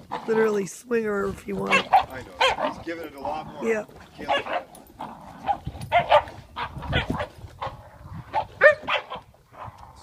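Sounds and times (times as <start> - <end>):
dogs barking and yipping: 1.6 - 10.0.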